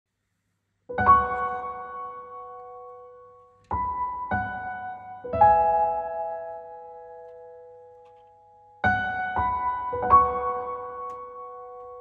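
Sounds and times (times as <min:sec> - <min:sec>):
soft piano chords: 0:00.9 - 0:12.0.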